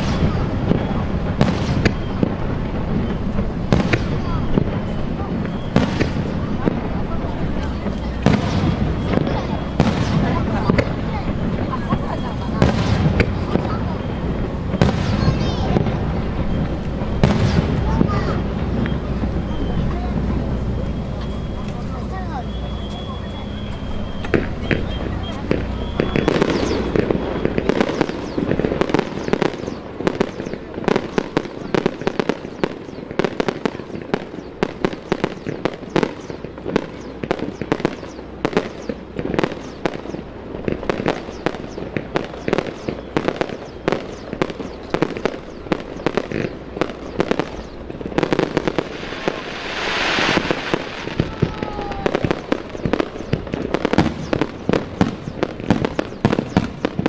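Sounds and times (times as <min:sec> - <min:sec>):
hissing rush: 0:00.0 - 0:31.6, 0:36.9 - 0:55.0
fireworks bursting: 0:00.0 - 0:57.0.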